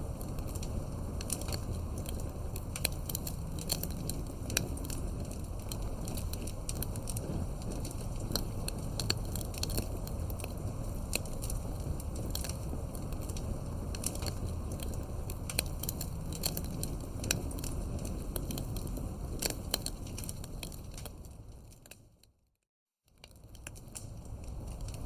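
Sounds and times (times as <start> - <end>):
wood fire flames rushing: 0.0 - 22.2, 23.2 - 25.0
burning wood crackling and popping: 0.0 - 22.3, 23.1 - 25.0.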